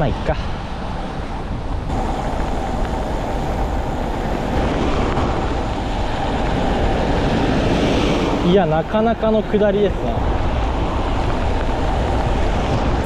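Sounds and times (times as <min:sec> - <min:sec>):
bicycle tyre and road noise: 0:00.0 - 0:13.0
wind rushing on microphone: 0:00.0 - 0:13.0.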